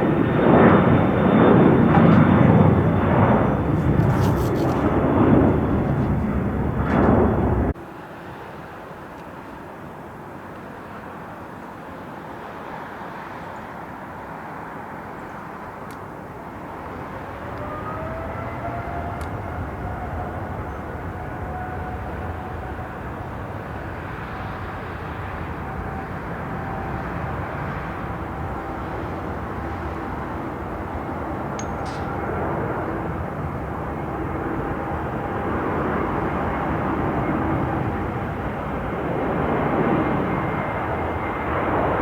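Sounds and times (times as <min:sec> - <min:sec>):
distant jet noise: 0:00.0 - 0:42.0
jet engines running loud: 0:00.0 - 0:42.0.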